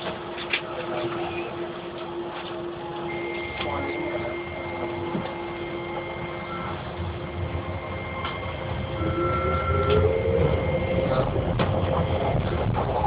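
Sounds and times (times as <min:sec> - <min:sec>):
train rumble inside carriage: 0:00.0 - 0:13.0
train whine rising in pitch: 0:00.7 - 0:13.0.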